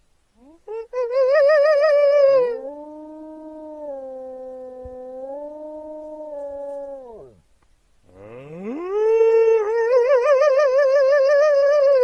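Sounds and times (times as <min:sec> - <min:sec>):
high wavering wolf howl: 0:00.4 - 0:07.4, 0:08.1 - 0:12.0
low steady wolf howl: 0:00.4 - 0:07.4, 0:08.1 - 0:12.0.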